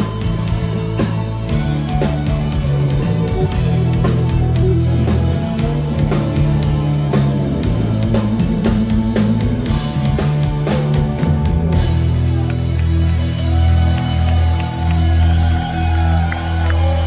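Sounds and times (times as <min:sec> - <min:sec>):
drum kit beat: 0:00.0 - 0:16.0
electric guitar: 0:00.0 - 0:17.0.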